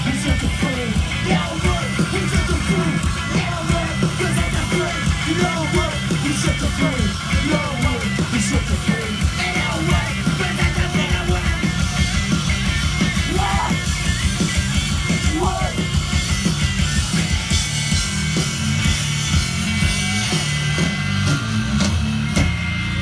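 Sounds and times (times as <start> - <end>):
heavy bass: 0.0 - 23.0
punk band playing live: 0.0 - 23.0
rapid drumming: 0.0 - 23.0.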